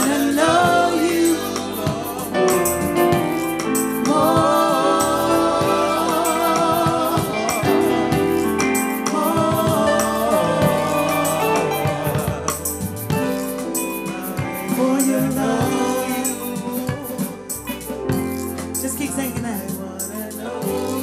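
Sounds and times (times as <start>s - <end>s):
instrumental accompaniment: 0.0s - 21.0s
voices singing gospel song: 0.0s - 21.0s.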